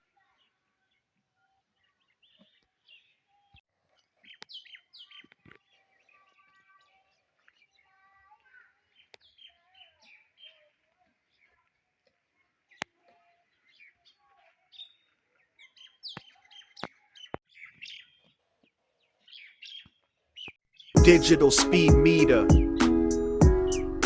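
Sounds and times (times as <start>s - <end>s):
faint birds chirping: 0.0s - 21.0s, 21.8s - 24.0s.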